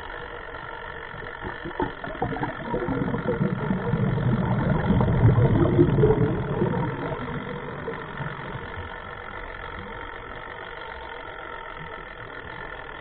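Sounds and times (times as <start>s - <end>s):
underwater bubbles rushing: 0.0s - 10.5s.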